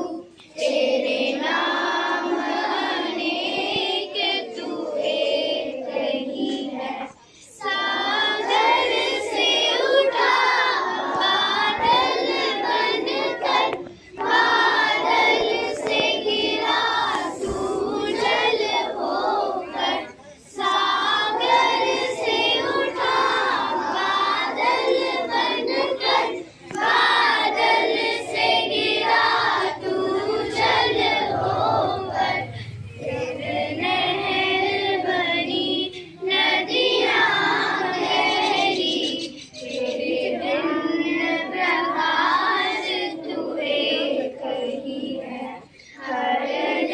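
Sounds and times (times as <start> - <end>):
children singing in chorus: 0.0 - 46.9.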